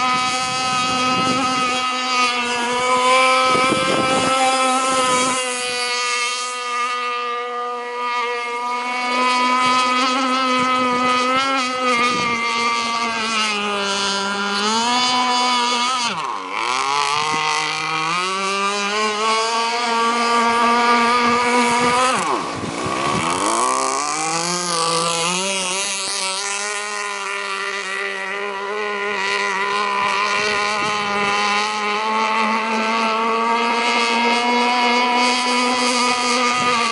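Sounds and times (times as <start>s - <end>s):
model speedboat motor whine: 0.0s - 36.9s.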